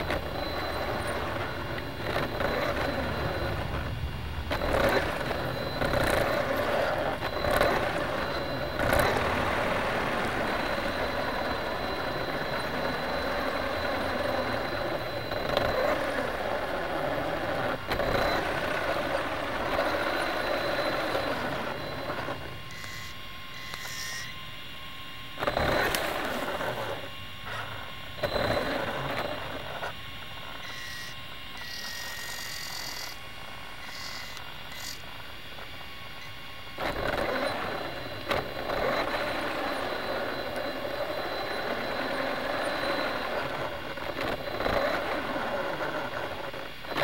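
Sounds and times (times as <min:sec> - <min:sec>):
radio-controlled car motor: 0:00.0 - 0:47.0.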